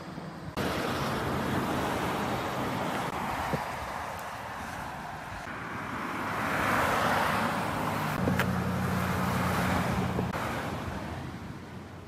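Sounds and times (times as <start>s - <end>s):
vehicle passing: 0.0s - 12.0s.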